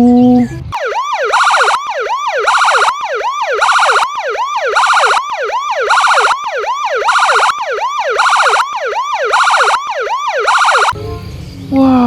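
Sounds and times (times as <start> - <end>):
police car siren: 0.7 - 11.0.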